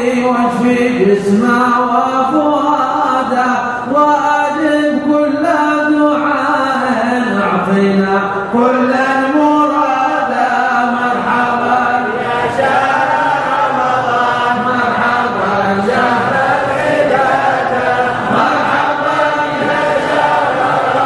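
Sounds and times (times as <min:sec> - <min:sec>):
men chanting: 0:00.4 - 0:21.0.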